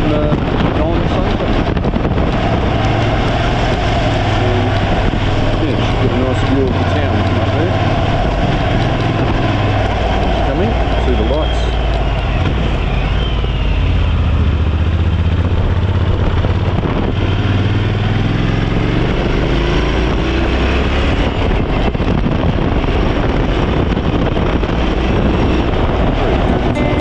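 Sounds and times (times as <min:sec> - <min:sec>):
motorcycle engine running: 0:00.0 - 0:20.4, 0:21.1 - 0:27.0
road and wind noise: 0:00.0 - 0:27.0.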